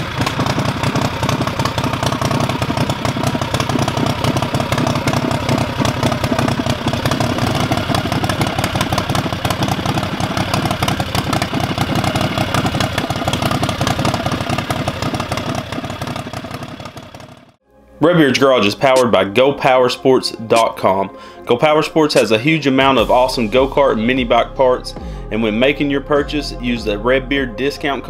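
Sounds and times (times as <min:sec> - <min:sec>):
engine running through open headers: 0:00.0 - 0:17.6, 0:22.8 - 0:28.0.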